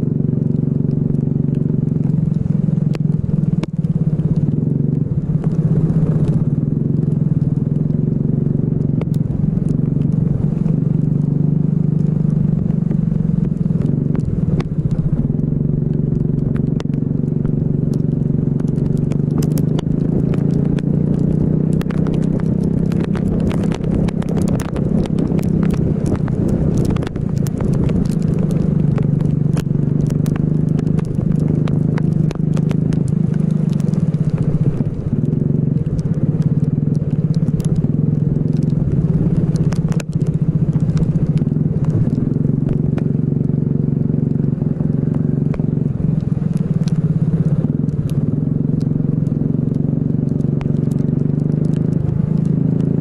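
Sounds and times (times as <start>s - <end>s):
sharp crackling ticks: 0.2s - 53.0s.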